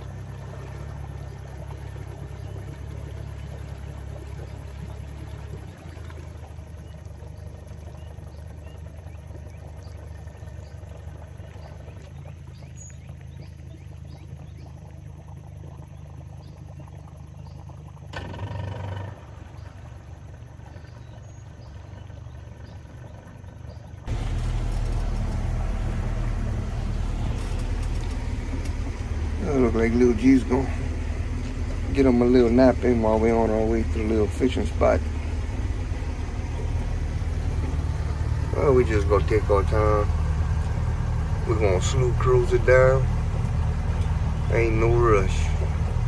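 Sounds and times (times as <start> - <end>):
outboard motor humming: 0.0 - 46.0.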